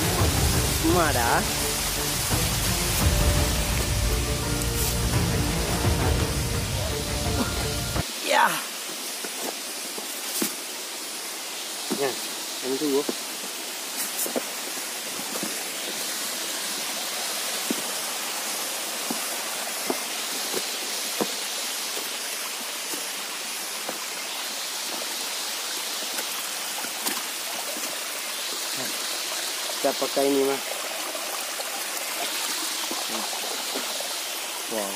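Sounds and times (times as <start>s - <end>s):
stream running over stones: 0.0s - 34.9s.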